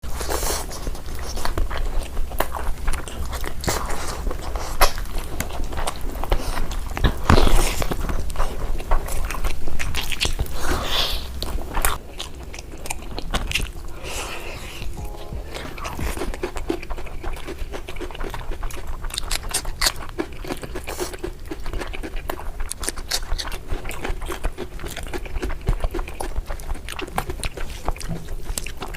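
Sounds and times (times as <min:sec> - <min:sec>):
chewing food: 0:00.0 - 0:28.9.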